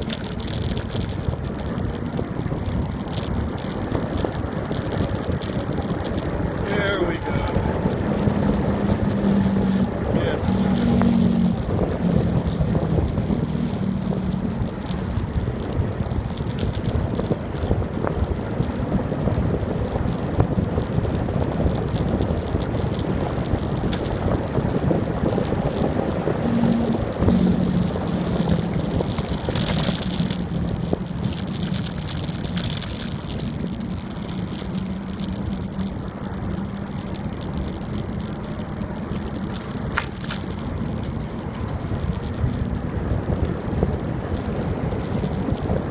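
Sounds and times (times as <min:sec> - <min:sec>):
low hum: 0:00.0 - 0:17.0, 0:23.5 - 0:43.5
bicycle tyres on asphalt: 0:00.0 - 0:45.9.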